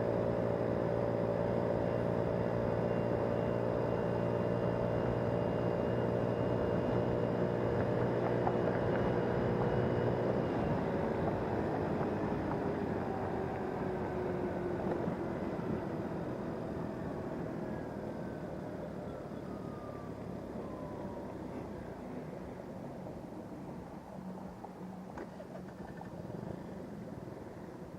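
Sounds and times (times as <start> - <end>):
engine hum: 0.0 - 27.9
vehicle road noise: 0.0 - 27.9.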